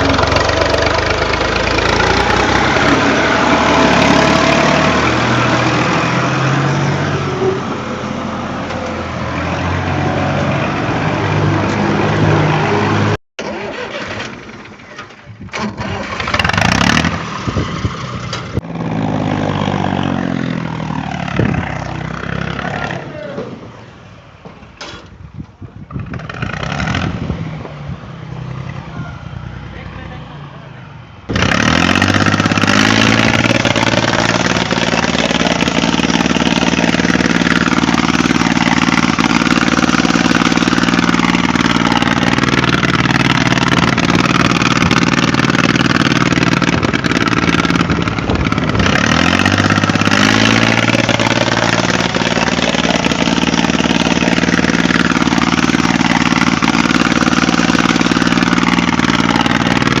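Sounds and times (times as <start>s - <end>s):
tractor engine running: 0.0s - 23.0s, 31.3s - 60.0s.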